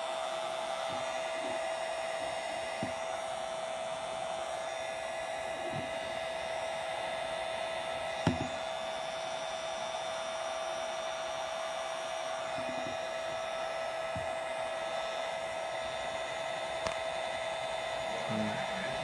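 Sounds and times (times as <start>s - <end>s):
heat gun blowing with high hum: 0.0s - 19.0s.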